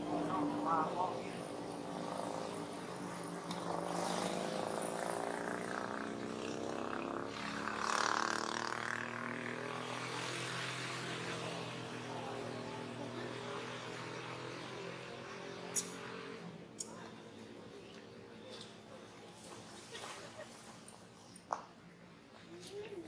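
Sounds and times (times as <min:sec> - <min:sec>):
steady engine drone: 0:00.0 - 0:23.0.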